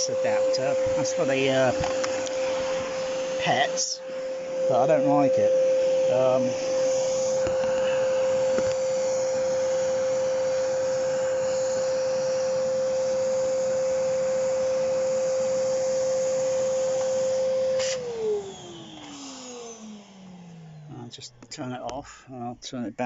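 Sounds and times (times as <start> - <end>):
vacuum cleaner running: 0.0 - 21.8.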